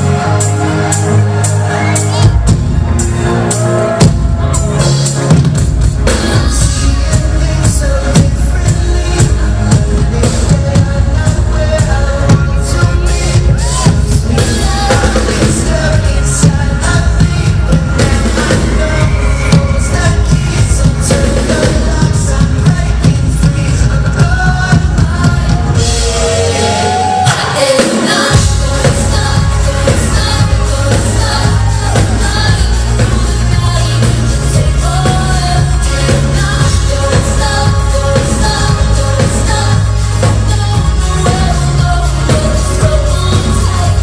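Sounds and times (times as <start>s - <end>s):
synth-pop band playing: 0.0s - 44.0s
woman singing lead: 0.0s - 44.0s.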